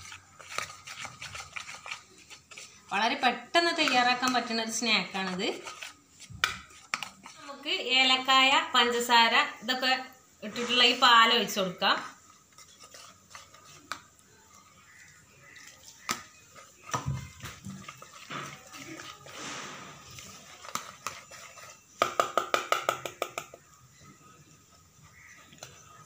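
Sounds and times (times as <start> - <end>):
batter mixing in plastic bowl: 0.0 - 26.0.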